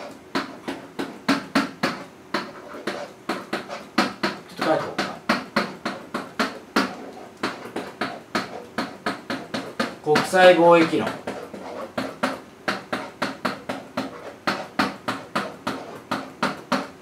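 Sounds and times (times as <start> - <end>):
pen tapping on whiteboard: 0.0 - 17.0.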